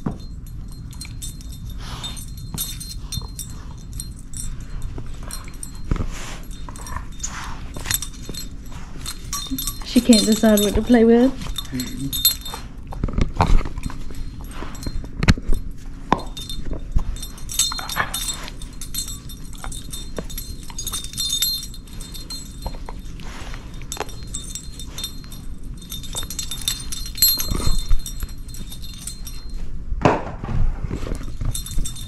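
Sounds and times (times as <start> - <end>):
metal jingling: 0.0 - 29.7, 30.9 - 32.0
dog playing with toys: 0.0 - 29.8, 30.5 - 32.0.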